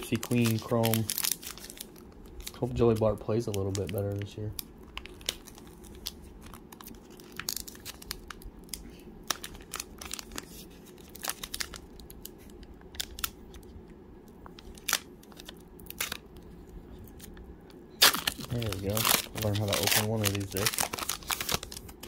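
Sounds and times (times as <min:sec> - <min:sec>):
plastic wrapper crinkling: 0:00.0 - 0:22.0.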